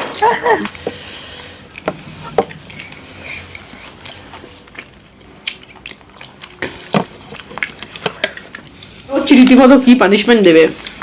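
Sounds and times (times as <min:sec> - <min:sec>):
people chewing and biting food: 0:00.0 - 0:11.0.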